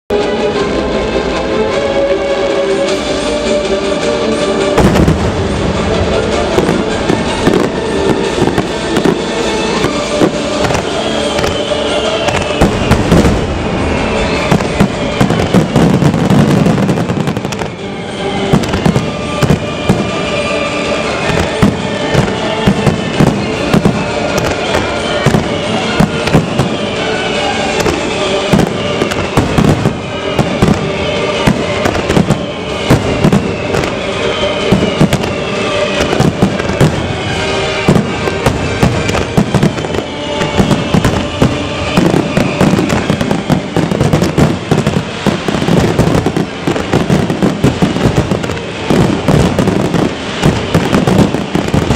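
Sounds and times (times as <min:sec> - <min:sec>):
music playing: 0:00.1 - 0:51.9
fireworks bursting and crackling: 0:02.8 - 0:51.9
fireworks falling whistles: 0:04.7 - 0:51.9.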